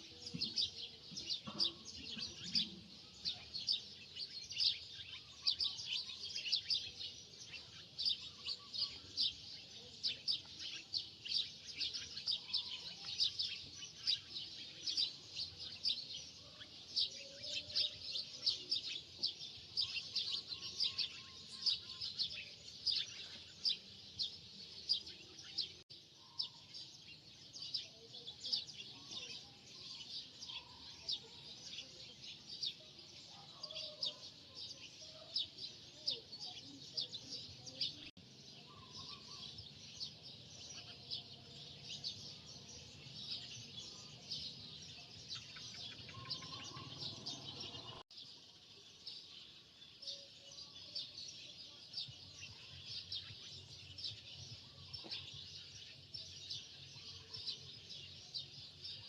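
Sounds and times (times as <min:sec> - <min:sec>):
small birds chirping rapidly: 0:00.0 - 0:59.0.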